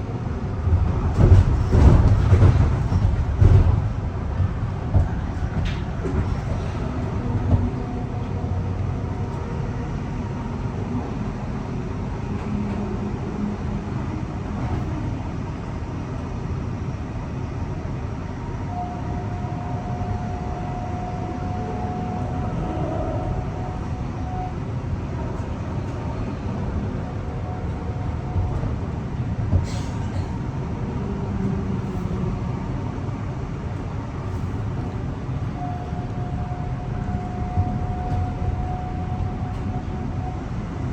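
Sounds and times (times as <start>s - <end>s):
electric train rumbling: 0.0s - 40.9s.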